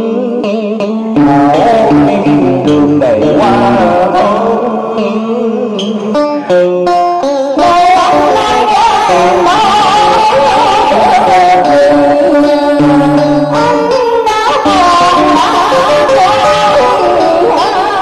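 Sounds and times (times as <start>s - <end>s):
woman singing: 0.0s - 6.2s, 7.6s - 18.0s
person singing: 0.0s - 18.0s
plucked-string music: 0.0s - 18.0s.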